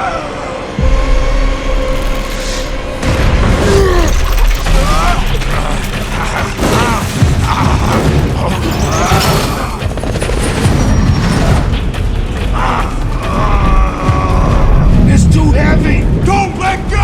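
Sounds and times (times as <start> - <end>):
film music: 0.0 - 17.0
heavy low rumble and booms: 0.7 - 8.7, 9.6 - 17.0.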